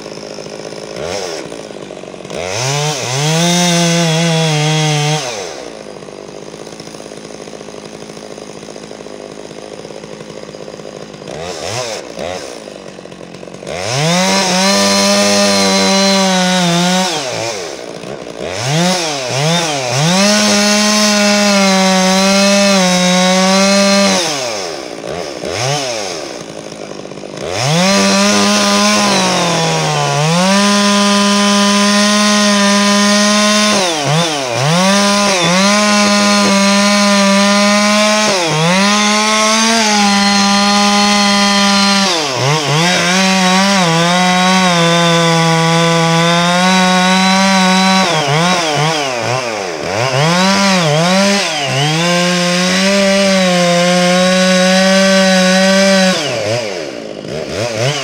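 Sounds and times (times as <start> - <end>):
chainsaw cutting tree: 0.0 - 58.0.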